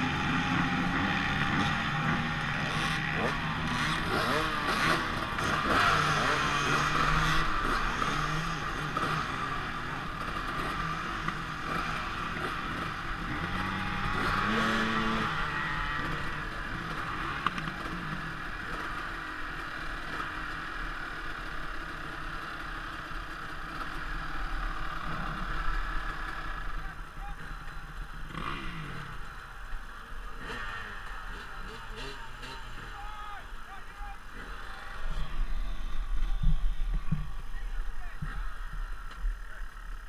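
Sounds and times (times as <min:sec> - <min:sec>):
dirt bike engine revving: 0:00.0 - 0:40.0
dirt bike engines running: 0:00.0 - 0:40.0.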